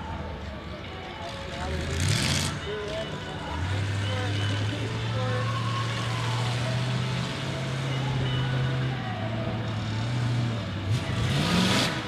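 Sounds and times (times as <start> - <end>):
truck engine revving: 1.4 - 12.0.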